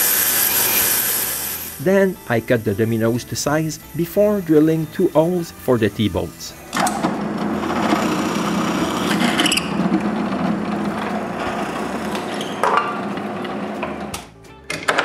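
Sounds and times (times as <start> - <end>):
power tool cutting wood: 0.0 - 14.2.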